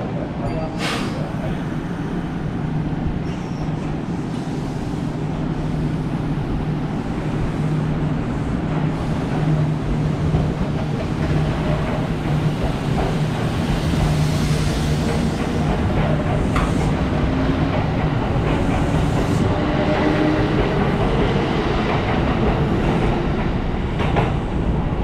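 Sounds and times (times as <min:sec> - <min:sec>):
electric train low hum: 0:00.0 - 0:25.0.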